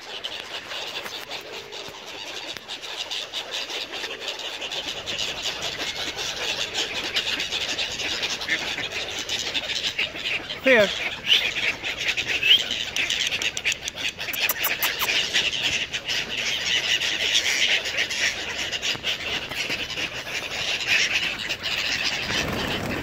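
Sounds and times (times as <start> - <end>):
flock of birds chirping: 0.0 - 23.0.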